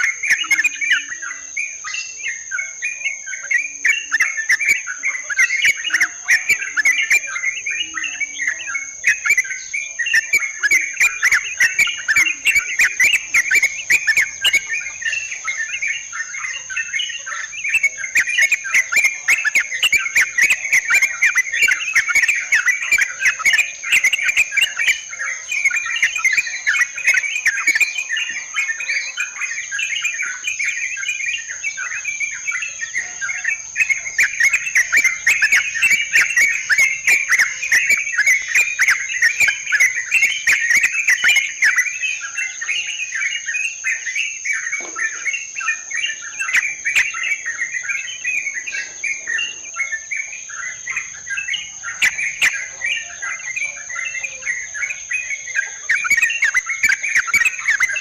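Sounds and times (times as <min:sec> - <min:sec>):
birds chattering: 0:00.0 - 0:58.0.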